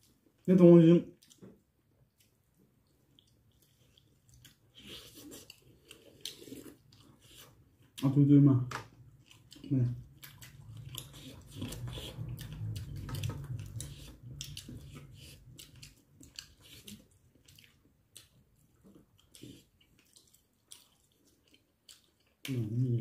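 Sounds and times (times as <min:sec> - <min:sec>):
chewing and lip-smacking: 0:01.1 - 0:08.1, 0:08.8 - 0:23.0.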